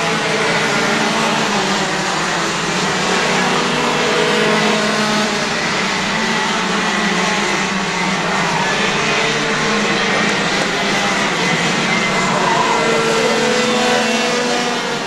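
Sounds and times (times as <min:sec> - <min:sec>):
racing kart engines: 0:00.0 - 0:15.0.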